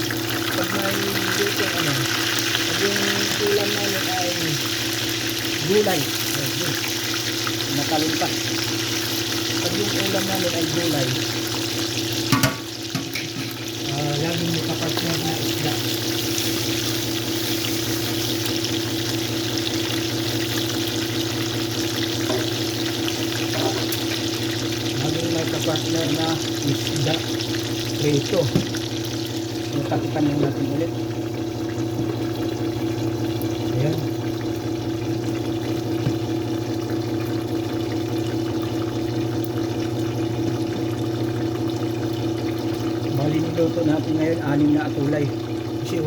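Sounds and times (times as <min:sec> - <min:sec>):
hot oil sizzling in a frying pan: 0:00.0 - 0:46.0.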